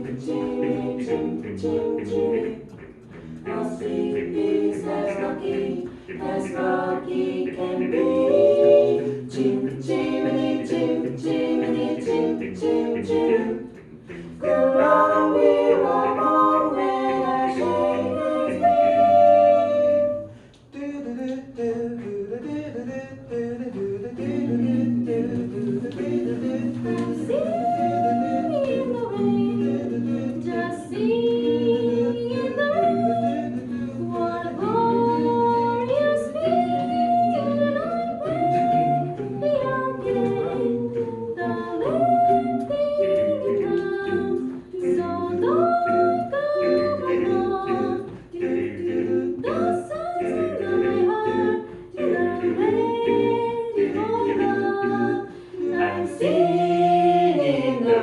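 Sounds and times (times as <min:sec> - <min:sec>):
a cappella group singing: 0:00.0 - 0:58.0.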